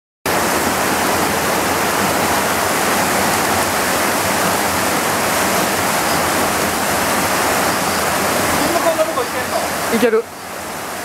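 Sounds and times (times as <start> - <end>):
waterfall rushing: 0.3 - 11.0.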